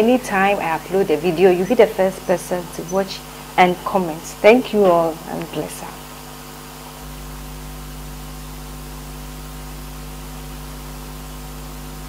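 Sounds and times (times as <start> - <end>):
electrical hum: 0.0 - 12.0
steady hiss: 0.0 - 12.0.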